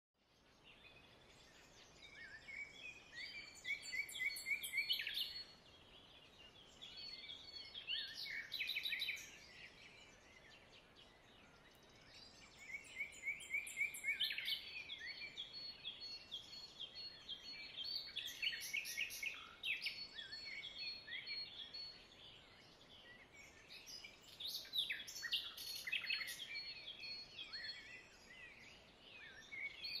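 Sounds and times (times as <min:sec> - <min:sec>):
songbirds chirping and trilling: 0:00.2 - 0:30.0.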